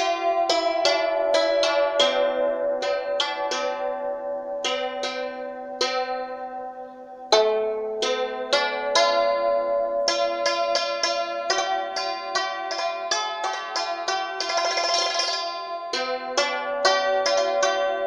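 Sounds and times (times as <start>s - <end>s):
hammered dulcimer notes: 0.0s - 18.0s.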